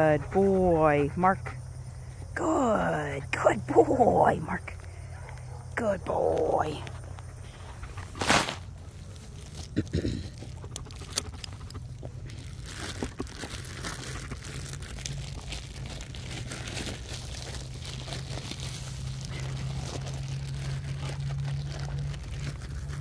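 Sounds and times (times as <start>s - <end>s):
grass rustling against microphone: 0.0s - 23.0s.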